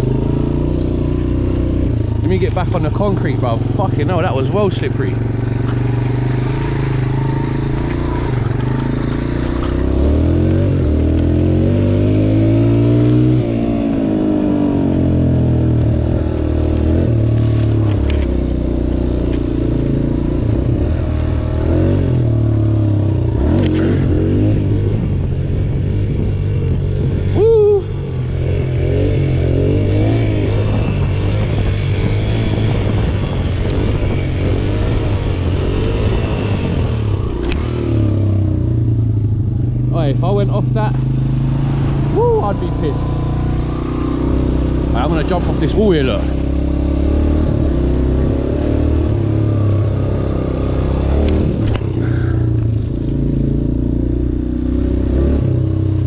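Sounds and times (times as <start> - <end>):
dirt bike engine revving: 0.0 - 25.1, 27.1 - 38.8, 39.8 - 56.0.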